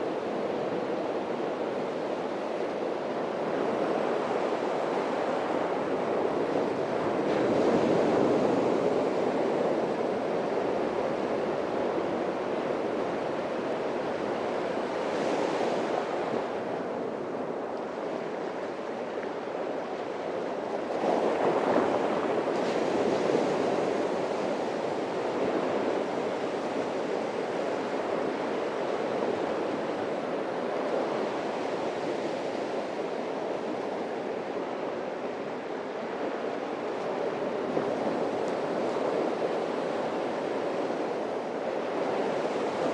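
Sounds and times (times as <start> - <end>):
surf breaking on a beach: 0.0 - 42.9.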